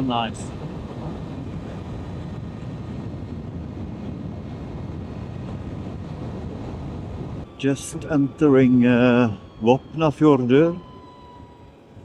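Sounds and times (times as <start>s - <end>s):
motorcycle road noise: 0.0s - 12.0s
wind rushing over microphone: 0.0s - 12.0s.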